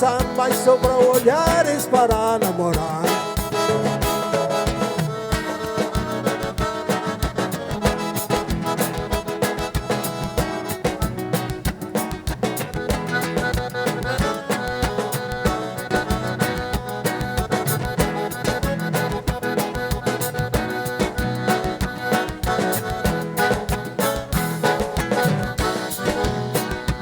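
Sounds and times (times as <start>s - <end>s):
accordion dance music: 0.0s - 27.0s
steady drum beat: 0.0s - 27.0s.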